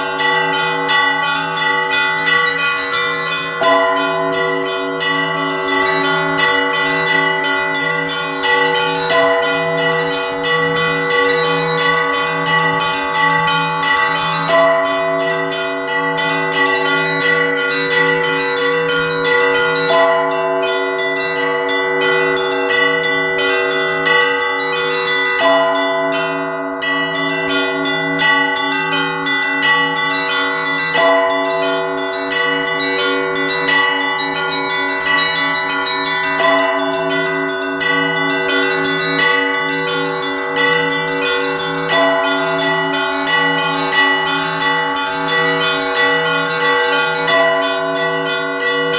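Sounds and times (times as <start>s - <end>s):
church bells pealing: 0.0s - 48.9s
low bell pulse: 0.0s - 48.9s.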